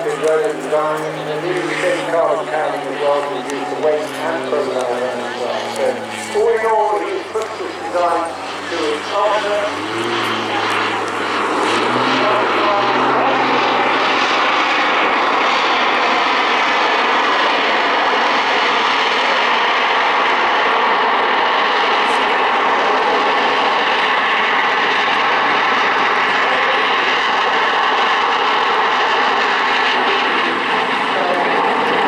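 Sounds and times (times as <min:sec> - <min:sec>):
airplane engines roaring: 0:00.0 - 0:32.0.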